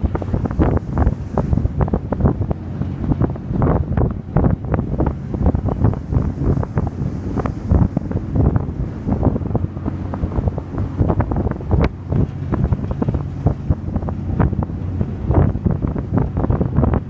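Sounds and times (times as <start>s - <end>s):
ferry engines humming: 0.0s - 17.0s
wind buffeting microphone: 0.0s - 17.0s.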